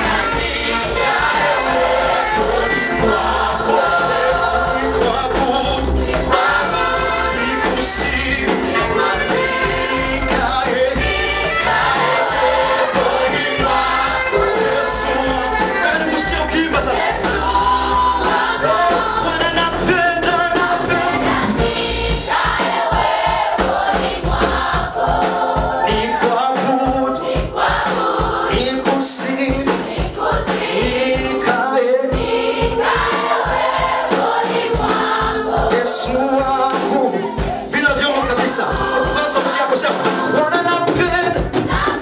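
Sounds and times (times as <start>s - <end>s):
gospel choir singing: 0.0s - 42.0s
steady beat: 0.0s - 42.0s.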